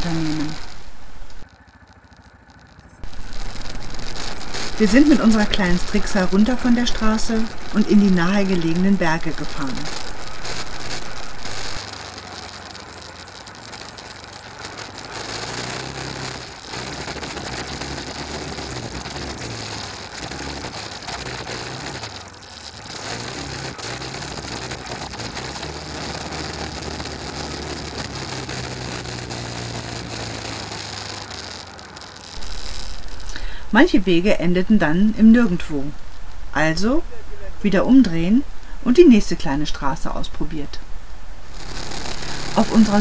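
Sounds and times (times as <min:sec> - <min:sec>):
tyres crunching on gravel: 0:00.0 - 0:33.4, 0:41.4 - 0:43.0
off-road vehicle engine: 0:00.0 - 0:43.0.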